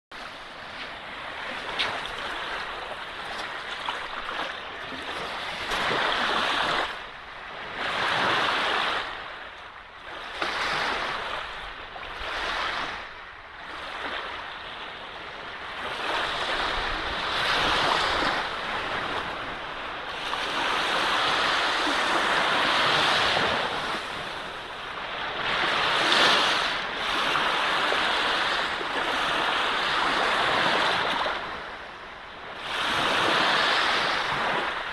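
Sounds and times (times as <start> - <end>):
sea waves breaking on beach: 0.1 - 34.9.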